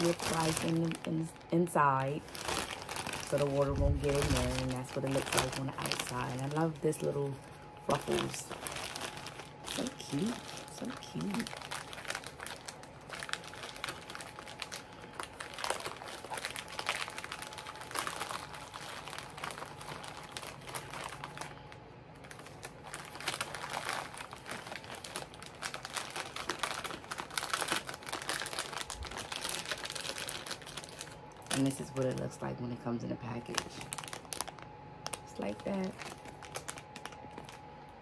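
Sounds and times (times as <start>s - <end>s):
plastic packaging crinkling: 0.0s - 38.0s.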